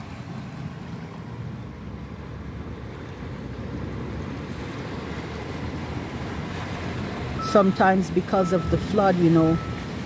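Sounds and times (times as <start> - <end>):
car moving through floodwater: 0.0 - 10.0.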